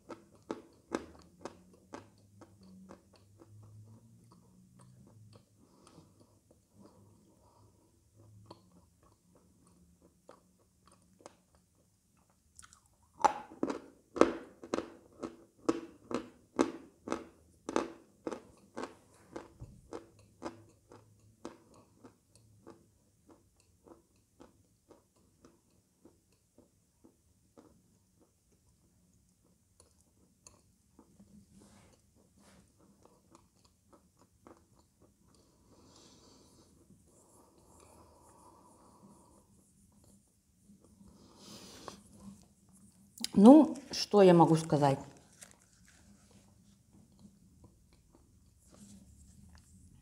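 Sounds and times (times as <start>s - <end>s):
chalk chewing and crunching: 0.0s - 14.0s, 14.6s - 43.2s, 45.2s - 50.0s.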